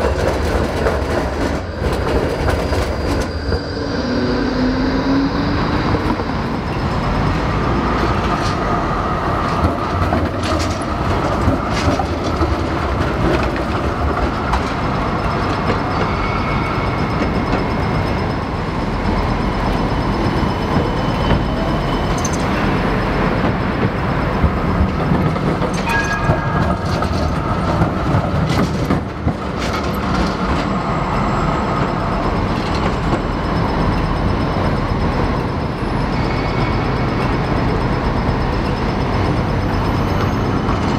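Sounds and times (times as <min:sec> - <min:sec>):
street traffic: 0:00.0 - 0:40.9
tram wheels clacking over crossings: 0:00.0 - 0:40.9.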